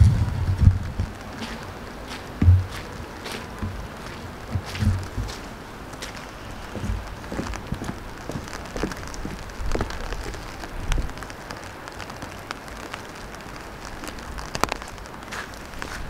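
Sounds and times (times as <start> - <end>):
footsteps on wet ground: 0.0 - 16.0
light rain pattering: 0.0 - 16.0.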